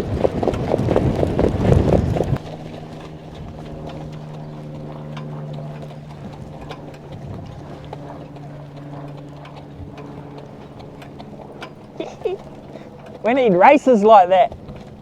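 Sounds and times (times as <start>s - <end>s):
horse hooves clip-clopping: 0.0s - 15.0s
low mechanical hum: 0.0s - 15.0s.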